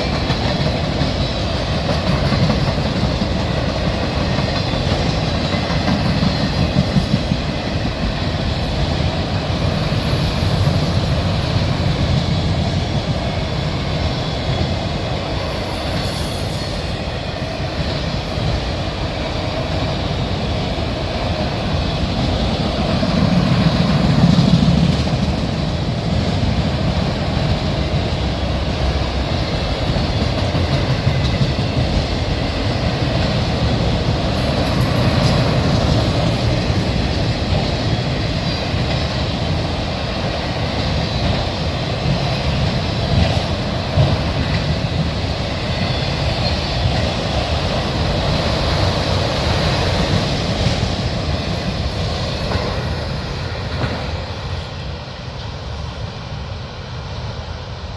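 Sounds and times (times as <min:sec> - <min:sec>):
train wheels rolling on rails: 0:00.0 - 0:57.9.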